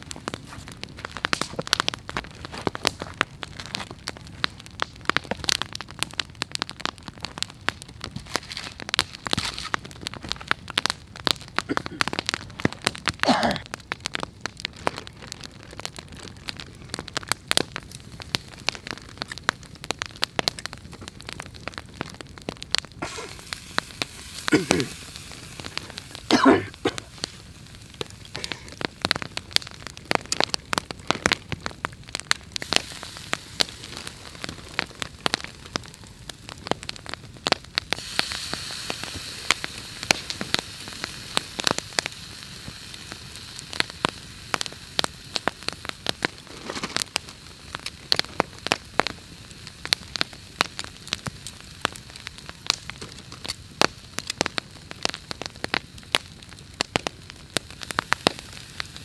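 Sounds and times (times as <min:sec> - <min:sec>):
campfire crackling and popping: 0:00.0 - 0:59.0
fire hiss: 0:00.0 - 0:59.0.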